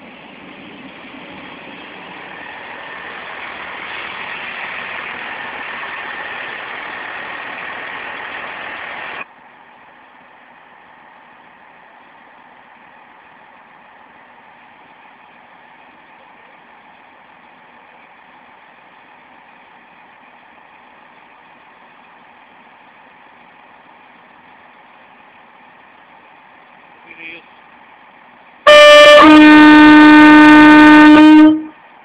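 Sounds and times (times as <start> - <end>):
train running past: 0.0 - 32.0
diesel engine idling: 2.0 - 30.6.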